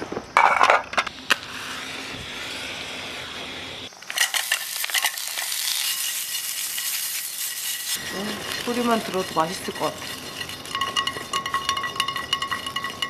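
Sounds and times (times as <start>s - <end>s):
sausages sizzling in a pan: 1.1s - 13.0s.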